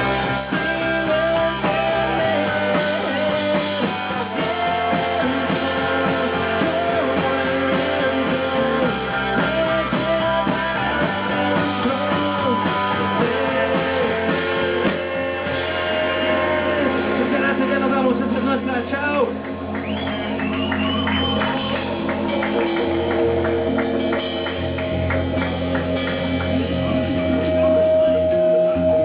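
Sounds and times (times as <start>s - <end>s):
electric guitar: 0.0s - 29.0s
rock band playing: 0.0s - 29.0s.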